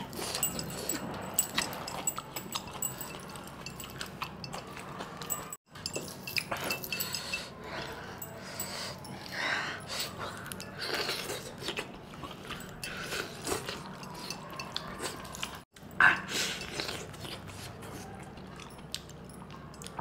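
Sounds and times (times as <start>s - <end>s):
wet chewing and eating sounds: 0.0s - 20.0s.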